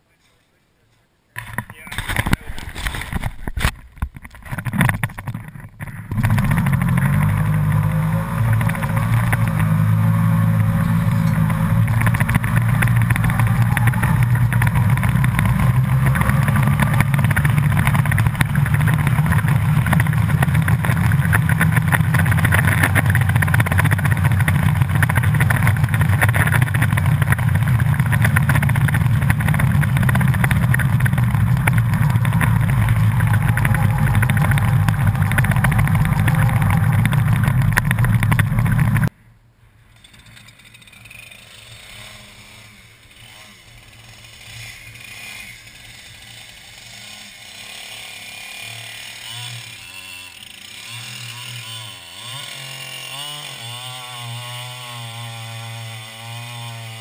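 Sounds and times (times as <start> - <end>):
snowmobile engine: 4.5 - 39.1, 40.8 - 57.0.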